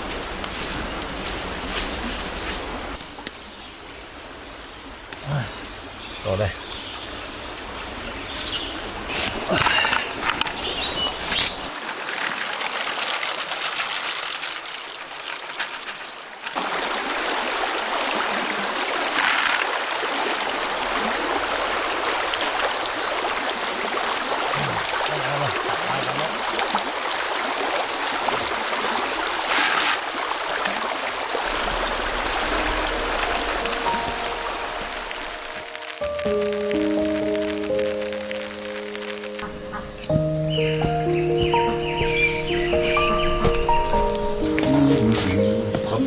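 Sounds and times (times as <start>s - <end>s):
stream water running over rocks: 0.0s - 46.0s.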